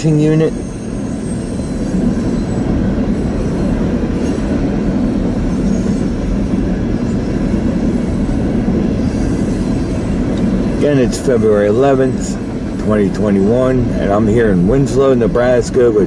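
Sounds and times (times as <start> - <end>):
locomotive engine: 0.0 - 16.0
train wheels rumbling on rail: 0.0 - 16.0.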